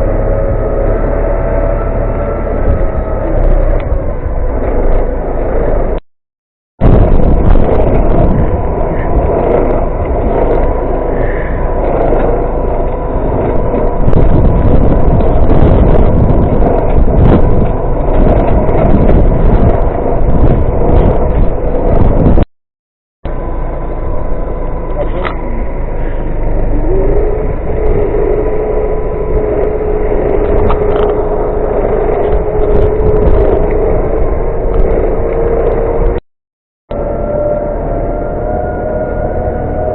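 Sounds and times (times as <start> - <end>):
vehicle engine rumbling: 0.0 - 6.0, 6.8 - 22.5, 23.2 - 36.2, 36.9 - 39.9.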